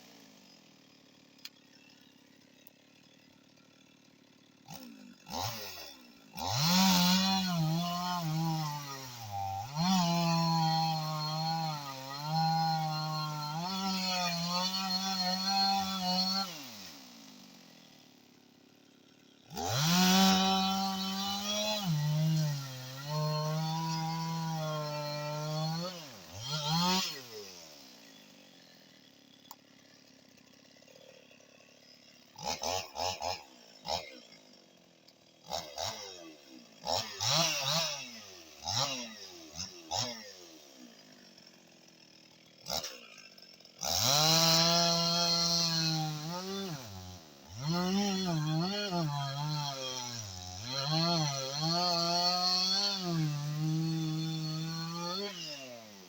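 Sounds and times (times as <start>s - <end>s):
chainsaw engine revving and idling: 0.0s - 56.0s.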